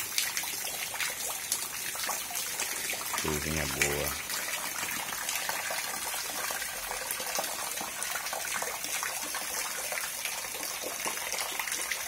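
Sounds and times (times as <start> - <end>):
steady rain: 0.0 - 12.0
water pouring into a basin: 0.0 - 12.0.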